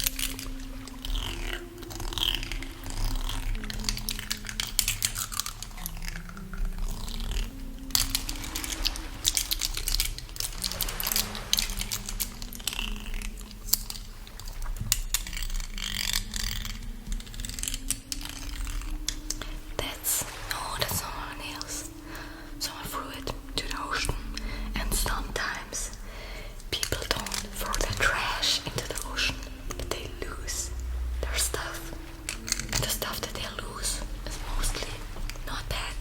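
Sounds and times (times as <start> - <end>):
woman humming: 0.0 - 14.4, 15.2 - 36.0
crisp clicks and crackles: 0.0 - 36.0.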